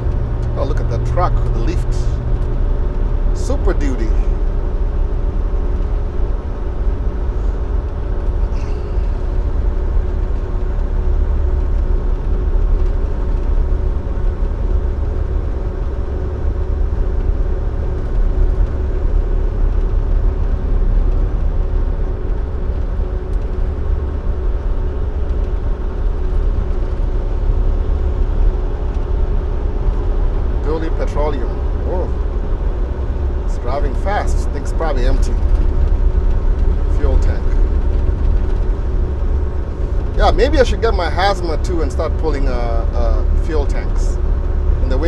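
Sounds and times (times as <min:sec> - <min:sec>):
constant hum: 0:00.0 - 0:45.0
truck engine rumble in cab: 0:00.0 - 0:45.0.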